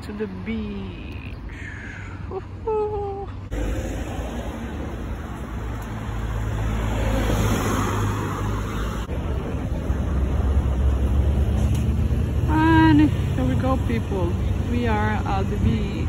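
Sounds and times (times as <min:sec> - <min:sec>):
cars passing on city road: 0:00.0 - 0:16.0.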